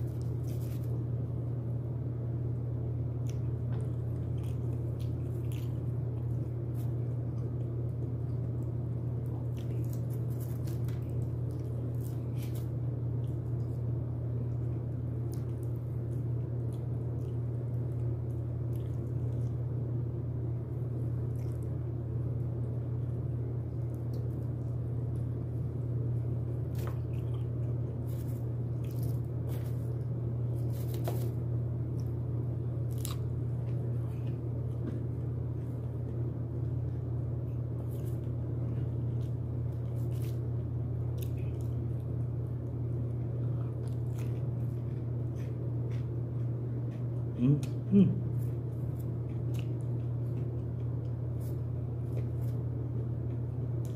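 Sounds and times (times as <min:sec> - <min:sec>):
person eating and chewing: 0:00.0 - 0:01.1, 0:03.0 - 0:53.9
steady low hum: 0:00.0 - 0:53.9.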